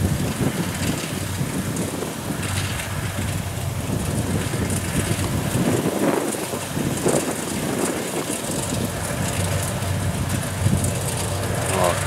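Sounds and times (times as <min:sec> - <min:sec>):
combine harvester running: 0:00.0 - 0:12.0
diesel engine hum: 0:00.0 - 0:12.0.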